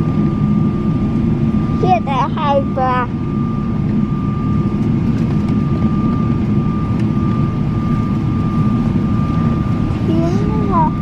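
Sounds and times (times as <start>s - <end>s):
jet engine cabin rumble: 0.0s - 11.0s
thin steady whine: 0.0s - 11.0s.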